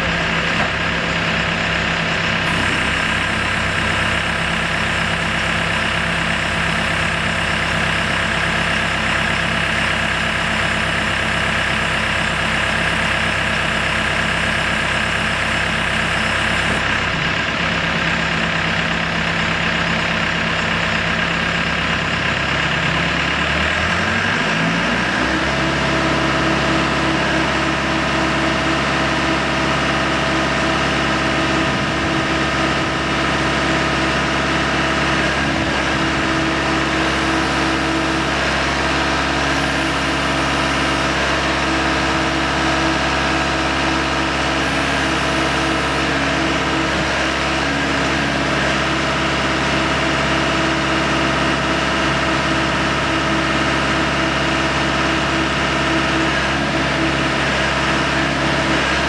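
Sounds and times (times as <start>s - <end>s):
drill rig engine and hydraulics: 0.0s - 59.0s.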